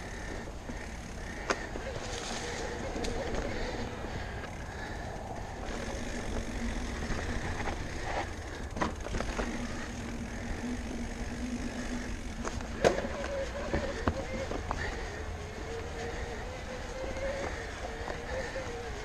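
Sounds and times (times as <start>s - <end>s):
bike knocking and rattling: 0.0s - 19.0s
low steady hum: 0.0s - 19.0s
wind and tyre rumble: 0.0s - 19.0s.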